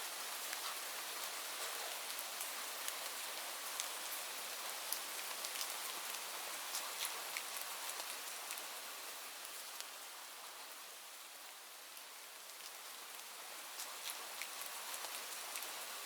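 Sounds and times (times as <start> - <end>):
steady rain hissing: 0.0 - 16.0.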